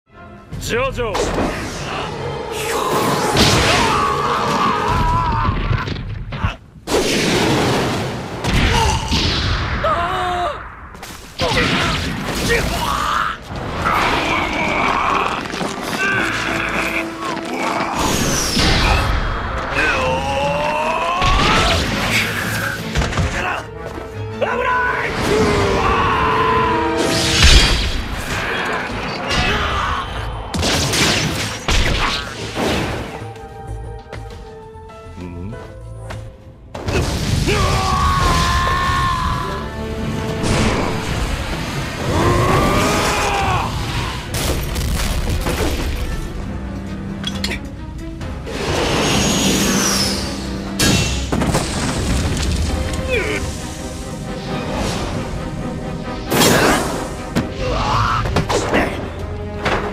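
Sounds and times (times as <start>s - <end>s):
dramatic background music: 0.1s - 59.9s.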